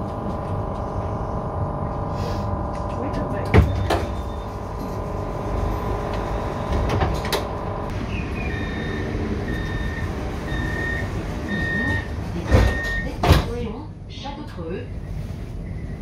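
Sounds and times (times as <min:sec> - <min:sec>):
electrical hum: 0:00.0 - 0:13.2.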